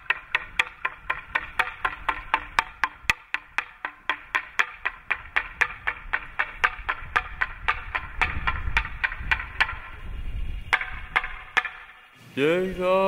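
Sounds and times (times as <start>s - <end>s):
mallet knocking wooden plank: 0.0s - 10.0s, 10.7s - 12.1s.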